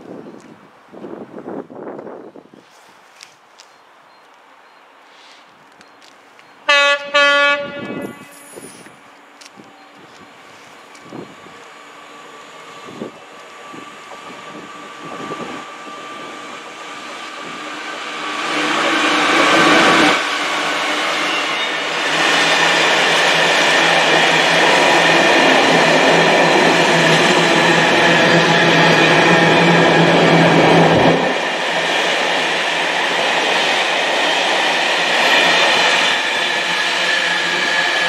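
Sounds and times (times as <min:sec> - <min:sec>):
diesel locomotive passing: 0:06.4 - 0:38.0.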